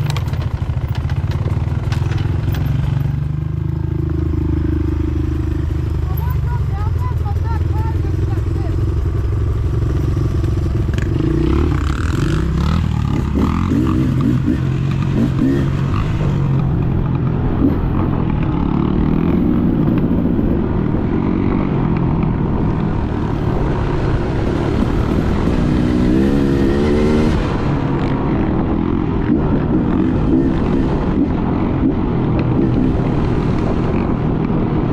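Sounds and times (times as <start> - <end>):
dirt bike engine revving: 1.6 - 21.8, 22.9 - 34.2.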